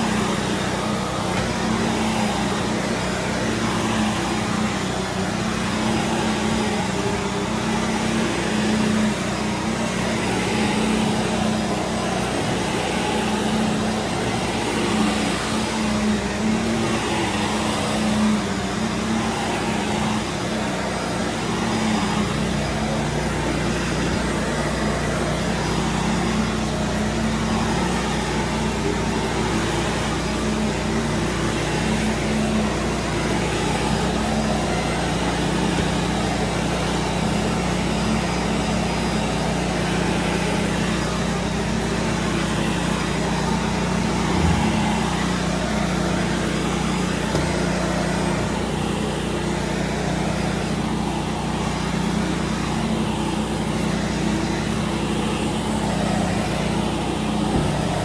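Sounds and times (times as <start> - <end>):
pressure washer hissing: 0.0 - 58.0
vacuum cleaner running over carpet: 0.0 - 58.0.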